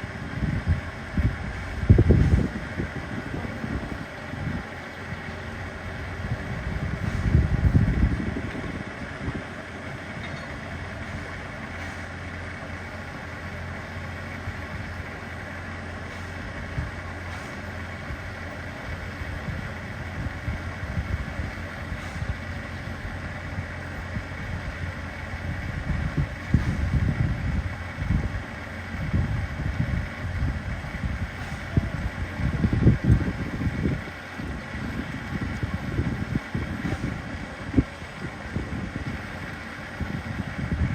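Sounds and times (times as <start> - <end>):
wind buffeting microphone: 0.0 - 12.7, 14.4 - 40.9
train running with low hum: 0.0 - 40.9.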